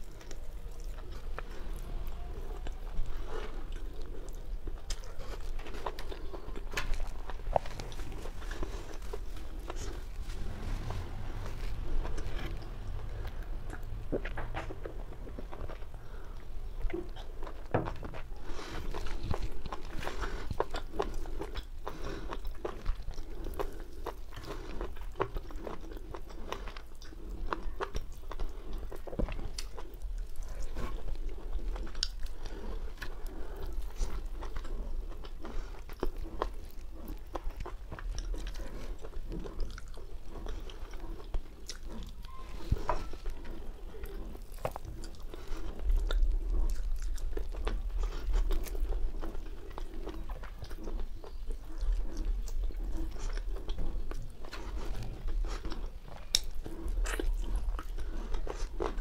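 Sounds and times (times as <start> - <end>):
person chewing and biting: 0.0 - 59.0.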